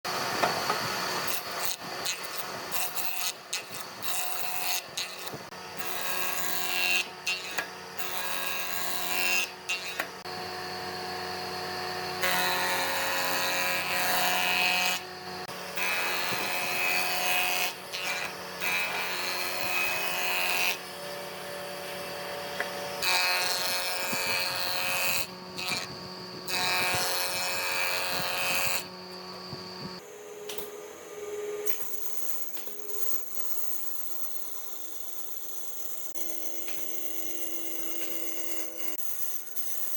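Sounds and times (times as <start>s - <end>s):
power tools on wood: 0.1s - 39.9s.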